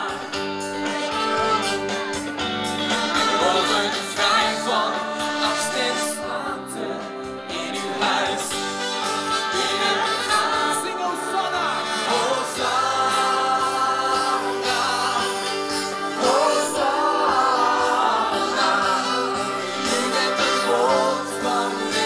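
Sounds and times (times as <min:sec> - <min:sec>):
band music over loudspeakers: 0:00.0 - 0:22.0
crowd singing worship song: 0:00.0 - 0:22.0.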